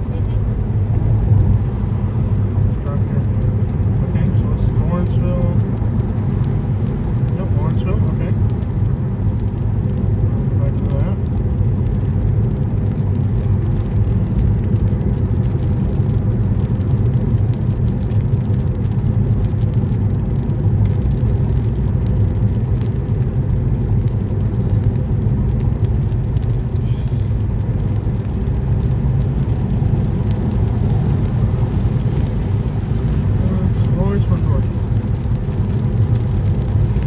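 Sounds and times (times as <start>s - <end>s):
car driving at highway speed: 0.0s - 37.0s.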